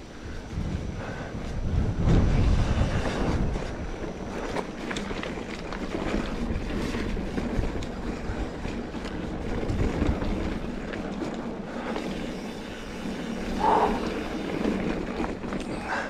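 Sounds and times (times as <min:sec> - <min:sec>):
bike rolling on dirt trail: 0:00.0 - 0:16.0
wind buffeting microphone: 0:00.0 - 0:16.0.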